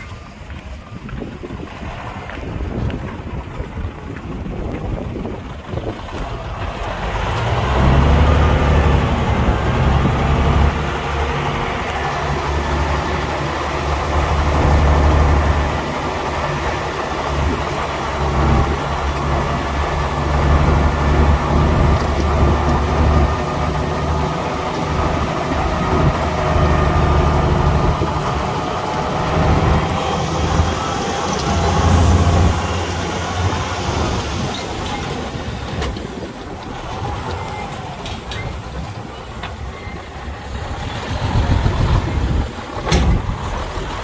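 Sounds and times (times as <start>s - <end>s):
bulldozer diesel engine: 0.0s - 44.0s
wind on microphone: 0.0s - 44.0s.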